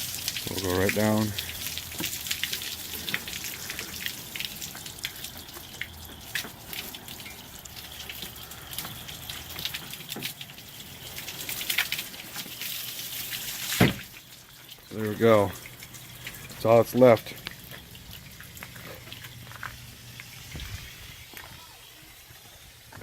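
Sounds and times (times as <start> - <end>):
water splashing on truck body: 0.0 - 21.0
hose water spraying: 0.0 - 23.0
water dripping: 0.0 - 23.0.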